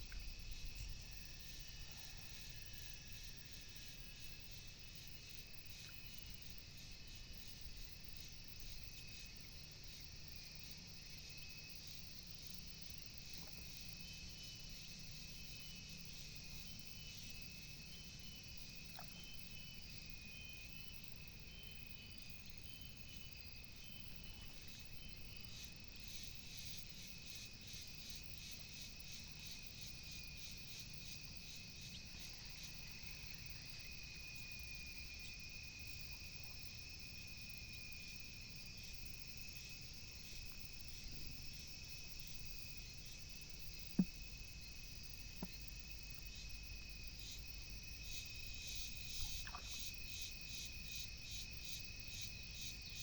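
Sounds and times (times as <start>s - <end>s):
insect high whine: 0.0s - 53.0s
insect pulsing chirr: 0.0s - 53.0s.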